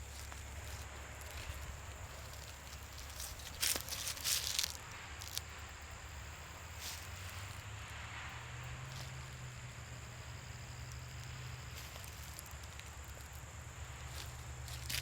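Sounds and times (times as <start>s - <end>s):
footsteps on dry leaves: 0.0s - 7.8s, 8.6s - 15.0s
faint low hum: 0.0s - 15.0s.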